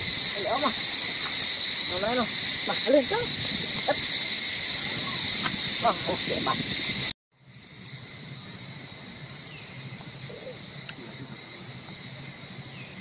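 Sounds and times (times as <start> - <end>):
insects droning shrilly: 0.0 - 13.0.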